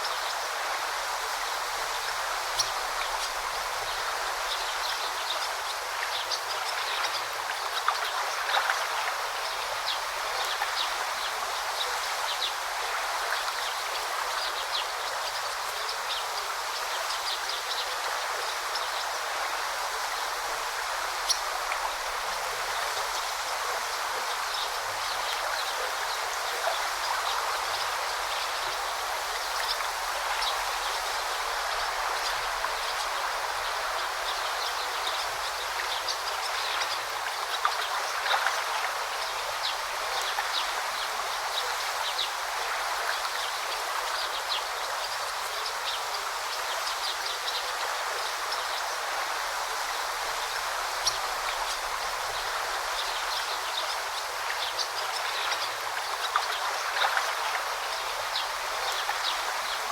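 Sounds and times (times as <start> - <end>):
forest stream babbling: 0.0 - 59.9.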